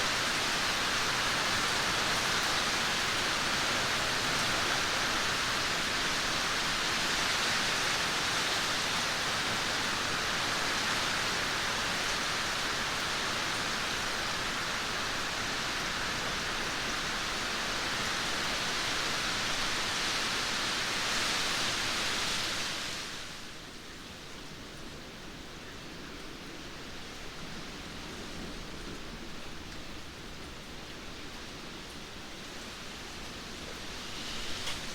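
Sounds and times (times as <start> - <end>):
heavy rain falling: 0.0 - 23.8, 24.5 - 34.9.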